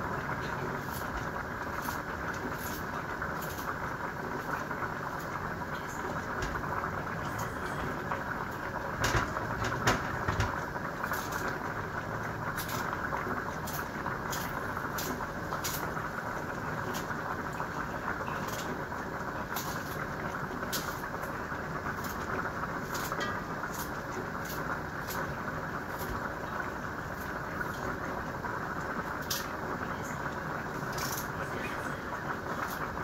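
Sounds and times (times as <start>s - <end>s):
water rushing in sink: 0.0s - 33.0s.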